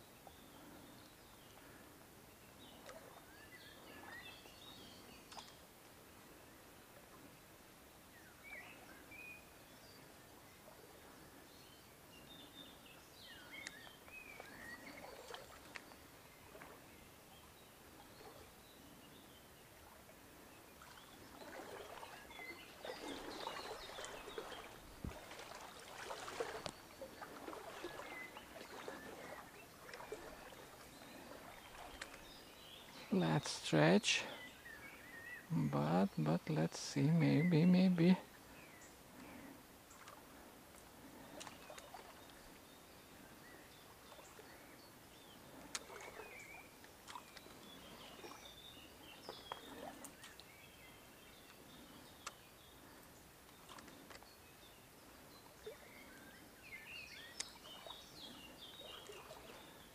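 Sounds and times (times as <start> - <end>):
small birds chirping: 0.0 - 6.6, 7.2 - 59.9.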